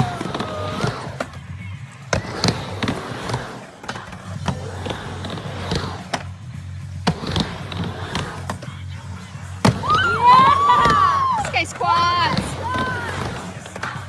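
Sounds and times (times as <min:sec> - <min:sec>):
music: 0:00.0 - 0:14.0
skateboard wheels rumbling: 0:00.0 - 0:14.0.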